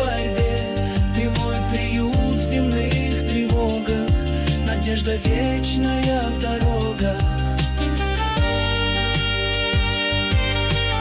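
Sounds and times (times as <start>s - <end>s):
deep bass pulse: 0.0s - 11.0s
sustained keyboard chords: 0.0s - 11.0s.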